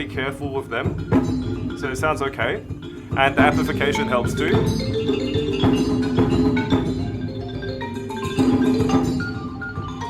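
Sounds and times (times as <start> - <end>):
fast marimba ensemble playing: 0.0 - 10.0.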